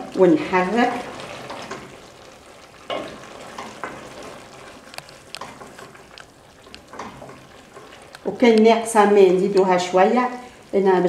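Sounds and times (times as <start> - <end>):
hot oil sizzling: 0.0 - 11.0
wooden spoon stirring stew: 0.5 - 10.5.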